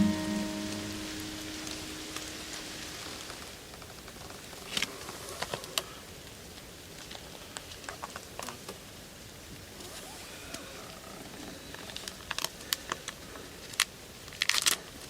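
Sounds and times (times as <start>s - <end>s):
light rain pattering: 0.0s - 15.0s.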